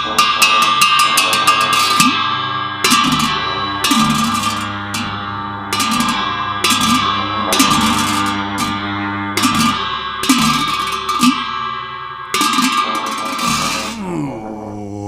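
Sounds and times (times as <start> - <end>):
cymbals crashing: 0.0 - 14.1
steady low drone: 0.0 - 15.0.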